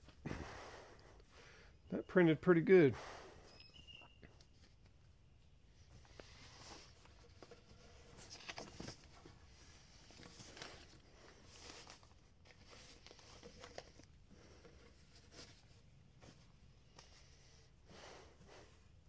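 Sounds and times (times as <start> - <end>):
faint scraping and rustling: 3.5 - 19.0.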